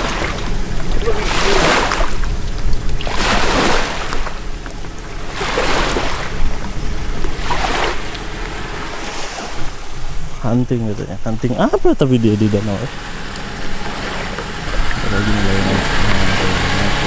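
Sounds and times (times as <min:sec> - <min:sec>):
lake waves washing in: 0:00.0 - 0:17.0
low steady rumble: 0:00.0 - 0:17.0.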